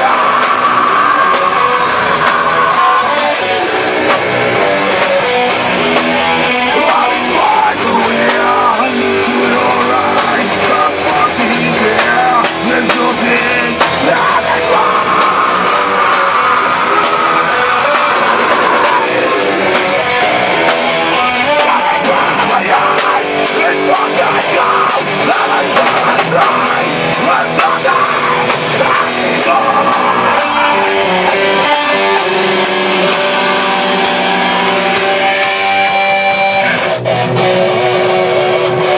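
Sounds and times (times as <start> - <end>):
distorted electric guitars: 0.0 - 38.9
drum kit: 0.0 - 38.9.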